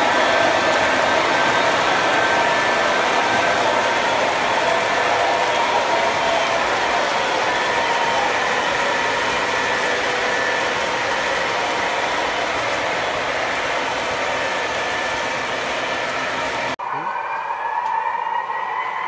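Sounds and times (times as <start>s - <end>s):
model train wheels rolling on rail: 0.0s - 16.8s
steady whine: 0.0s - 19.0s.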